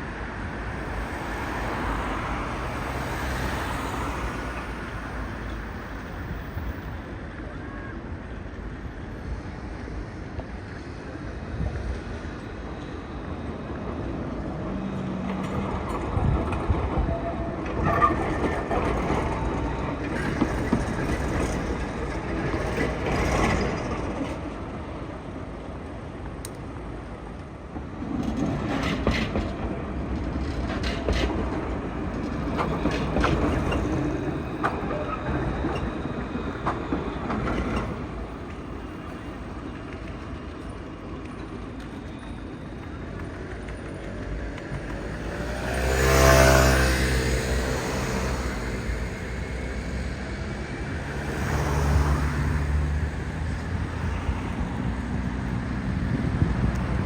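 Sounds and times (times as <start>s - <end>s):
street noise: 0.0s - 57.0s
tram passing: 0.0s - 57.0s.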